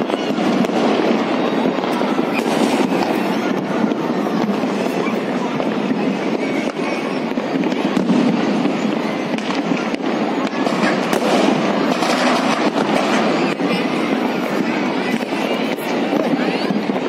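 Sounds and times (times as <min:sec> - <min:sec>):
fireworks and firecrackers exploding: 0:00.0 - 0:17.0.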